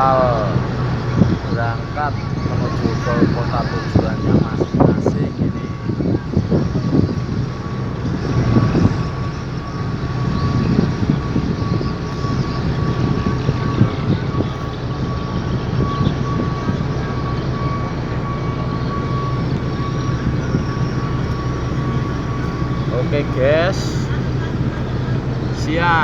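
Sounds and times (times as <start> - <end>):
ship engines droning: 0.0 - 26.0
thin steady whine: 0.0 - 26.0.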